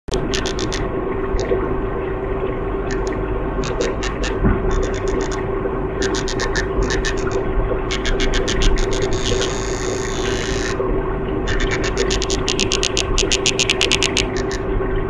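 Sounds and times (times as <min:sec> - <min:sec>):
fish making sharp clicks: 0:00.1 - 0:01.6, 0:02.9 - 0:05.4, 0:06.0 - 0:10.8, 0:11.5 - 0:14.7
steady hum and low rumble: 0:00.1 - 0:15.0.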